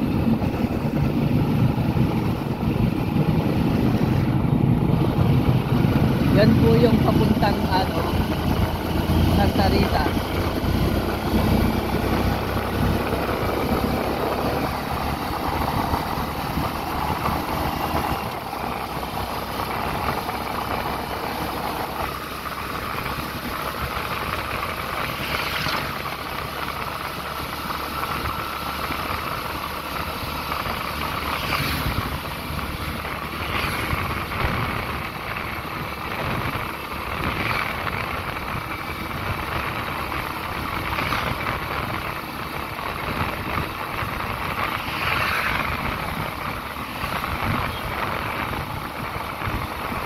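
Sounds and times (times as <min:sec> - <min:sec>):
vehicle engine and road rumble: 0:00.0 - 0:50.0.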